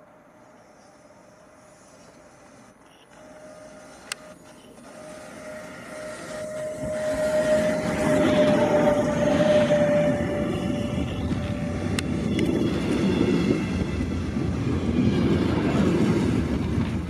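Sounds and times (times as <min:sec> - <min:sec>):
freight train passing: 0:00.0 - 0:17.0
steady whining tone: 0:00.0 - 0:17.0
wheels rumbling on rails: 0:00.0 - 0:17.0.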